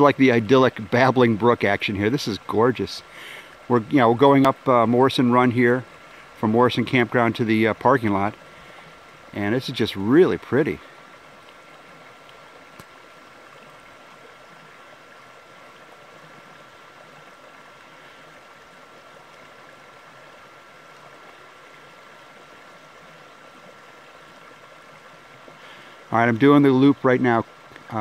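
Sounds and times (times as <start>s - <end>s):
stream babbling over stones: 0.0s - 28.0s.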